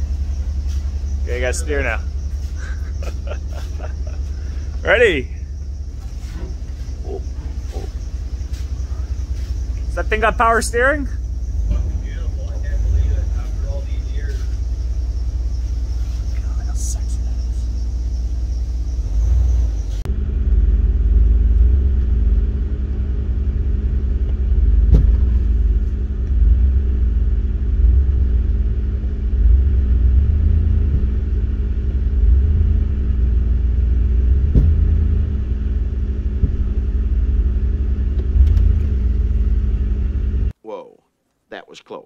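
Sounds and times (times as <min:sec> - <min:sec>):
engine rumbling at low speed: 0:00.0 - 0:40.6.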